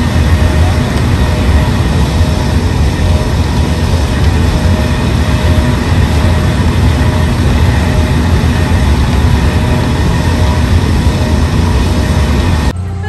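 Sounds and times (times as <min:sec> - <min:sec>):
faint machinery whine: 0:00.0 - 0:13.0
ride machinery rumble: 0:00.0 - 0:13.0.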